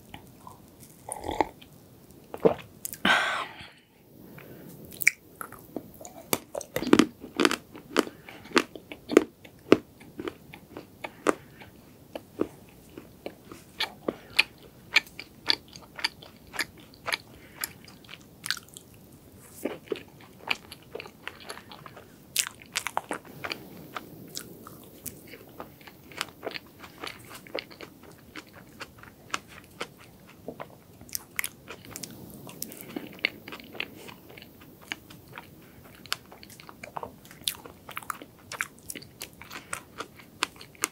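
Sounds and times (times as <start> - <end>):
person chewing with wet clicks: 0.0 - 3.0, 4.4 - 40.9.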